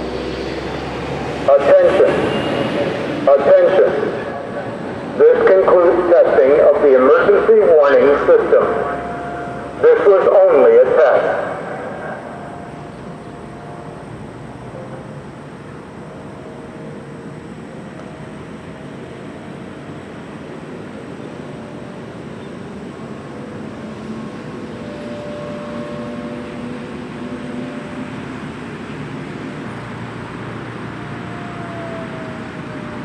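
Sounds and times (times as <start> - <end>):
passing vehicles rushing: 0.0 - 33.0
vehicle approaching: 0.0 - 33.0.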